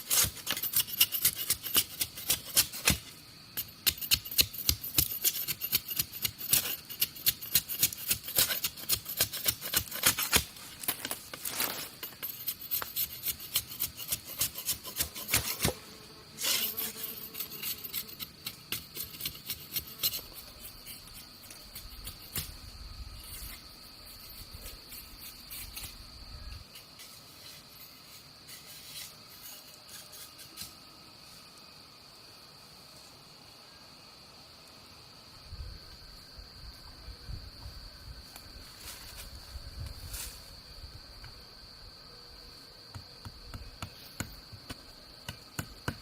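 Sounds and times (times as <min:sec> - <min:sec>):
insect high-pitched trill: 0:00.0 - 0:46.0.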